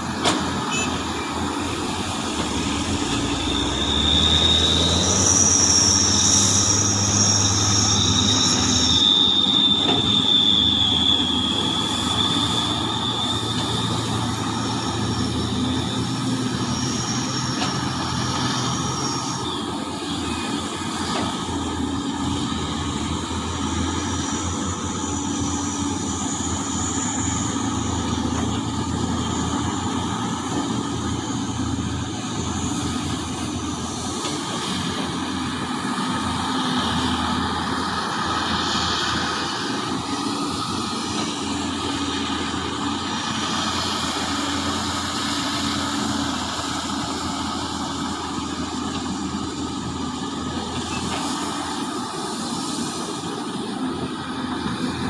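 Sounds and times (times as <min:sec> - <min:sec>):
excavator engine drone: 0:00.0 - 0:55.0
high-pitched metallic squealing: 0:00.1 - 0:52.8.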